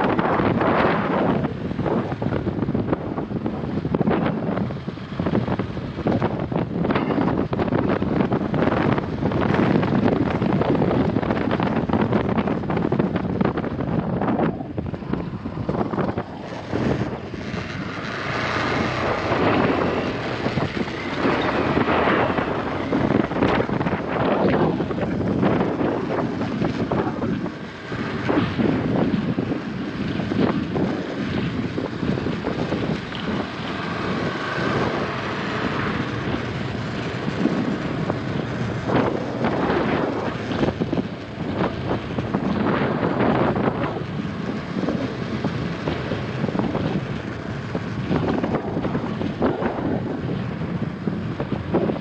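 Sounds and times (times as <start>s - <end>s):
motorcycle engine running: 0.0s - 52.0s
wind buffeting microphone: 0.0s - 52.0s.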